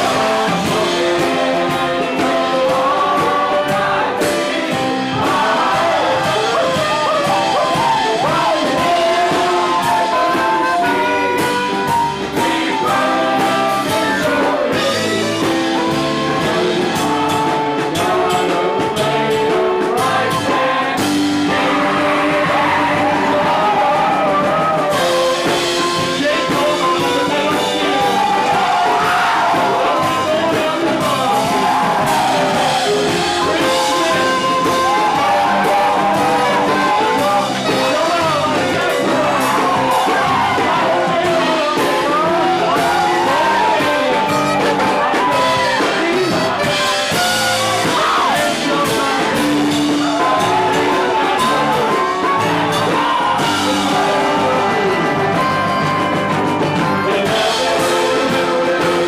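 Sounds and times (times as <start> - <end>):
bending lead guitar line: 0.0 - 59.0
live rock band playing: 0.0 - 59.0.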